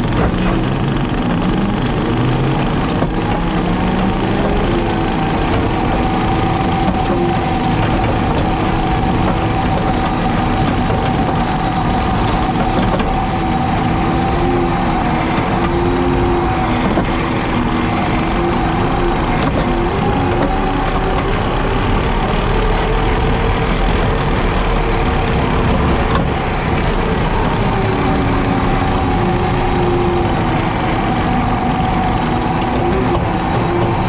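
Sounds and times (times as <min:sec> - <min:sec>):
skid steer mowing drone: 0:00.0 - 0:34.0.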